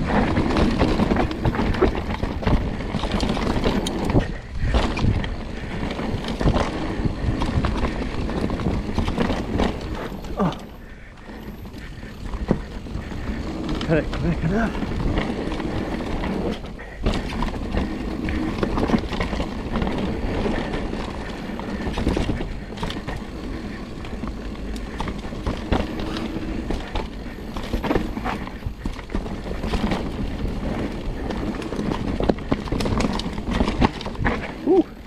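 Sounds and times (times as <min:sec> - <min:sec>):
bike rattling over bumps: 0:00.0 - 0:35.0
tyre and wind rush: 0:00.0 - 0:35.0.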